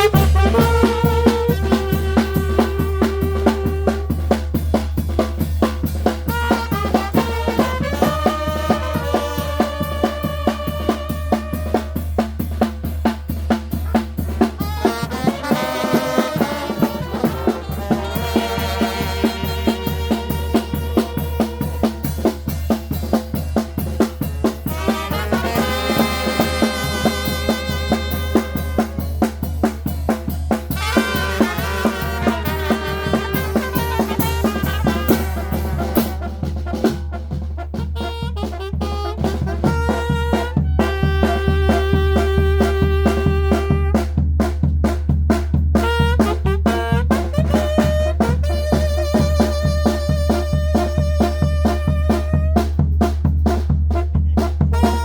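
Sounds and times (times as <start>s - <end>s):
bass drum and snare beat: 0.0s - 55.0s
brass band playing: 0.0s - 55.0s.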